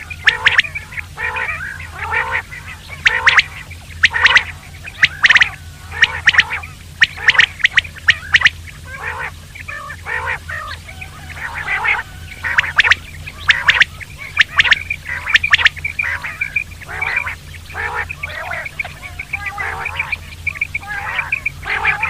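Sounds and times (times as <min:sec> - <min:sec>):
harsh rasping bird notes: 0:00.0 - 0:22.0
quail calling: 0:00.0 - 0:22.0.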